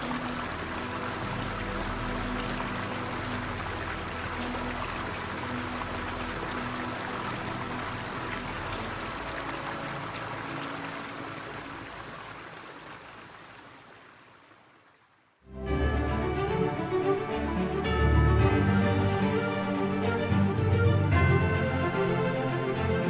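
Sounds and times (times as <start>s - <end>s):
ambient music low notes: 0.0s - 12.6s, 15.5s - 23.0s.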